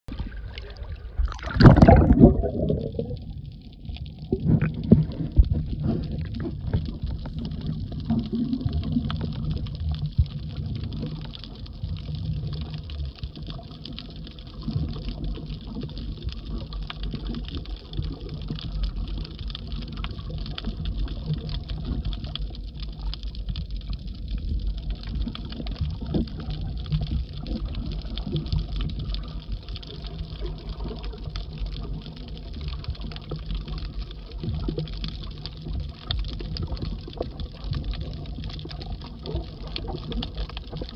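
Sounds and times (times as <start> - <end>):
faint underwater clicks: 0.1 - 40.9
underwater rumble of moving water: 0.1 - 40.9.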